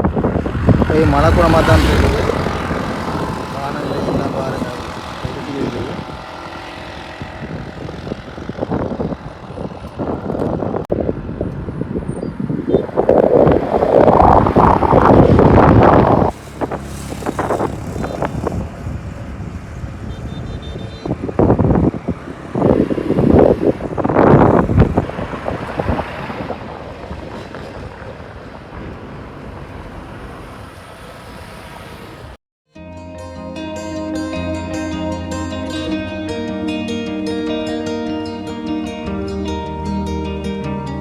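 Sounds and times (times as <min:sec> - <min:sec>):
road vehicles passing: 0:00.0 - 0:41.0.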